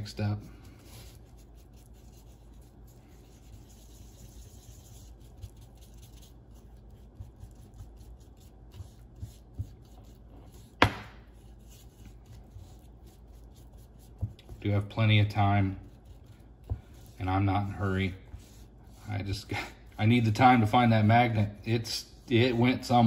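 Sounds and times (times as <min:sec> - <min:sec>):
wooden stick scraping epoxy on card: 0:00.0 - 0:23.0.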